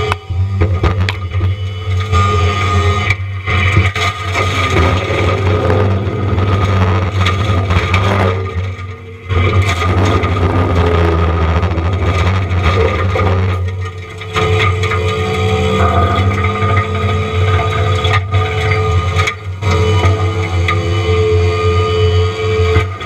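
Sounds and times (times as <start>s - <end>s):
forestry mulcher machine hum: 0.0s - 23.0s.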